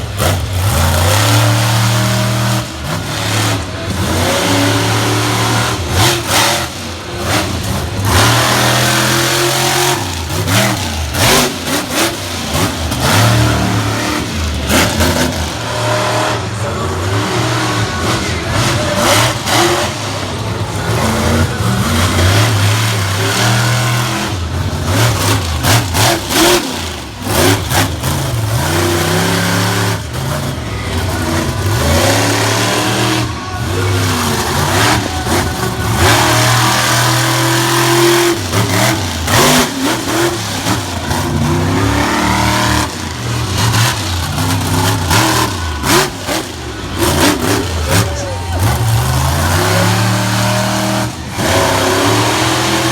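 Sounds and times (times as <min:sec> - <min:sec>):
monster truck engine revving: 0:00.0 - 0:52.9.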